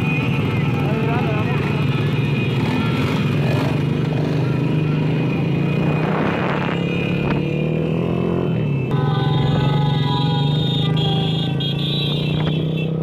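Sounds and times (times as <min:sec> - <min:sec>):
small motorcycle engines running: 0:00.0 - 0:13.0.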